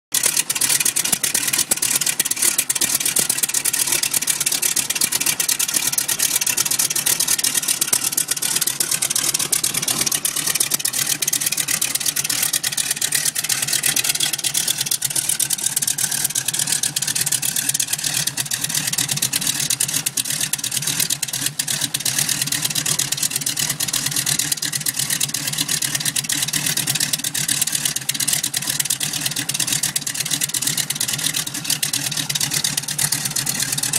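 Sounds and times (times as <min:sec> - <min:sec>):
radial aircraft engine running: 0:00.1 - 0:33.9.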